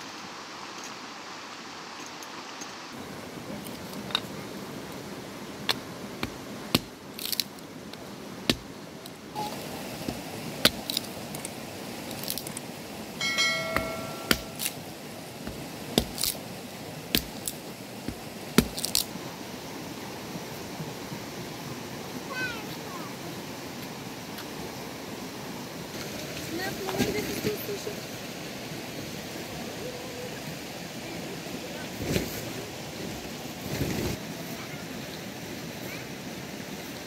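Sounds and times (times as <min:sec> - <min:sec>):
steady background hiss: 0:00.0 - 0:37.0.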